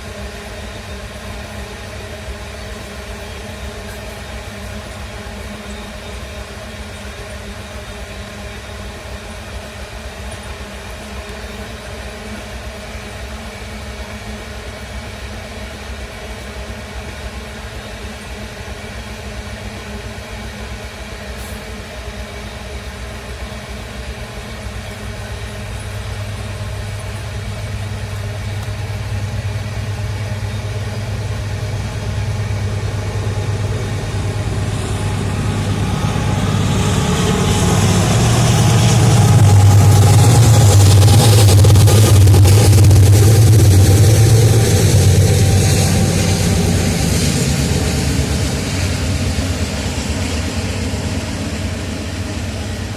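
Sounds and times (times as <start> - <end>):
locomotive engines running: 0.0 - 52.9.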